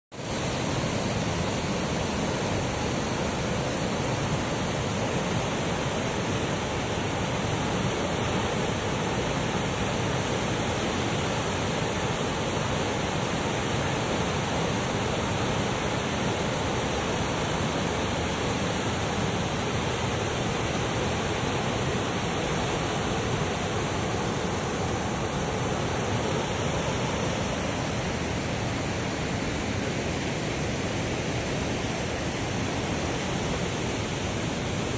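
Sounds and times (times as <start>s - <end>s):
water rushing through spillway: 0.2s - 34.9s.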